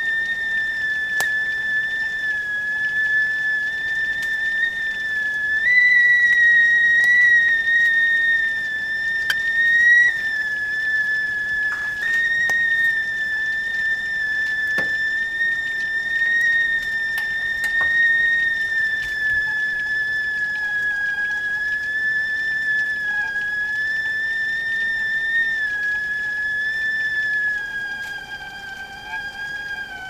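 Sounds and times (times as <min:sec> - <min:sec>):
tea kettle whistling: 0:00.0 - 0:30.0.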